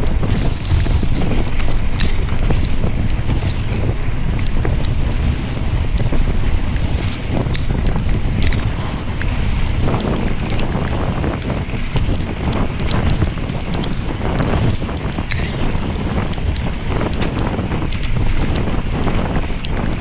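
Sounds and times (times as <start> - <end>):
sharp ticks: 0.0 - 11.0, 11.9 - 20.0
wind buffeting microphone: 0.0 - 20.0.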